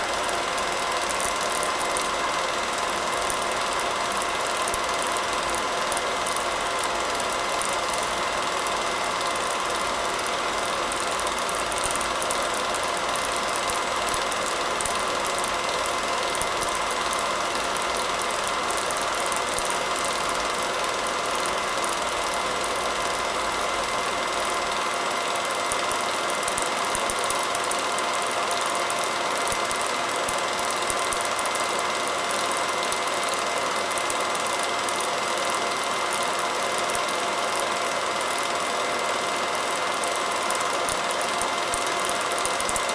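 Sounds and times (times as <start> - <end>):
film projector whirring: 0.0 - 42.9.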